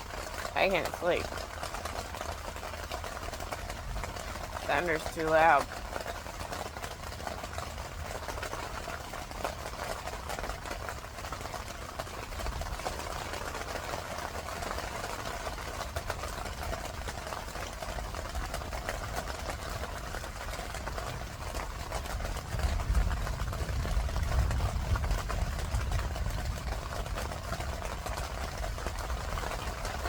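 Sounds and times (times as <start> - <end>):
rain pattering on a tent: 0.0 - 30.0.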